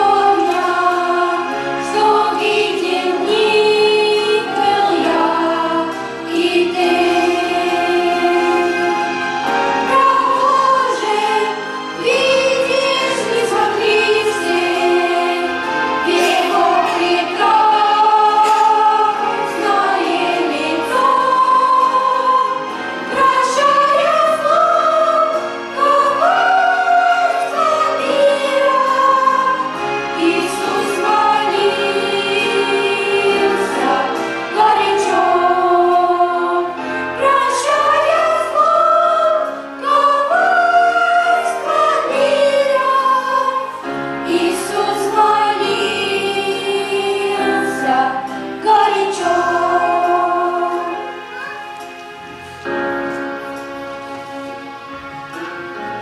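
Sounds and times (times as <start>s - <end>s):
choir singing a hymn: 0.0s - 54.7s.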